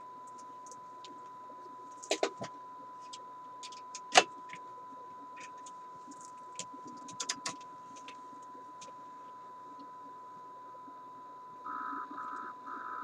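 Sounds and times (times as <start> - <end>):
test tone through car radio: 0.0 - 13.0.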